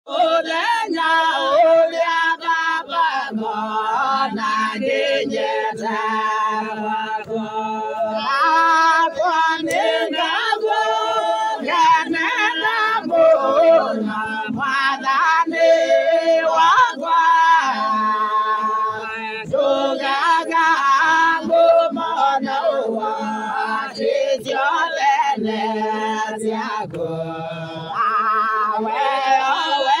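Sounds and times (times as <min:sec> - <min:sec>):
choir singing: 0:00.1 - 0:30.0.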